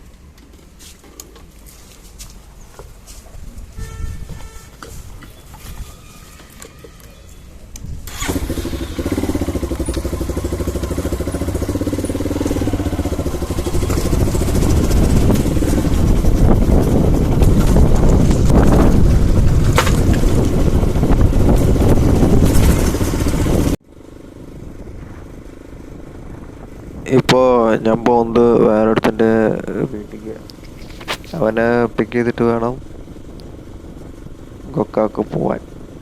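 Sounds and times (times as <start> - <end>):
motorcycle engine starting and running: 3.8 - 36.0.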